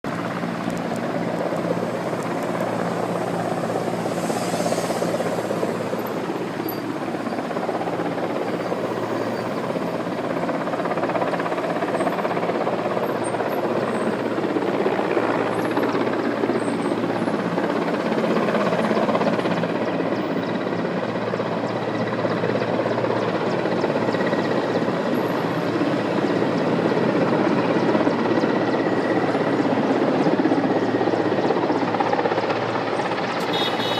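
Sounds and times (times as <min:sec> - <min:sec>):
helicopter engine and rotor: 0:00.0 - 0:33.9.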